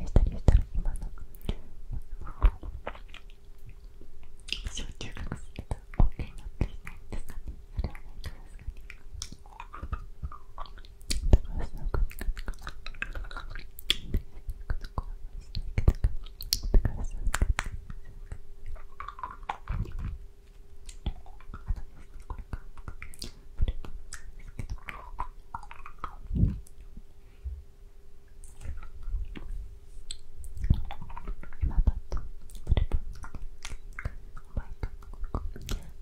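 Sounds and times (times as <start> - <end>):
wet mouth clicks and smacks: 0.2 - 20.2, 20.8 - 26.9, 28.4 - 36.0.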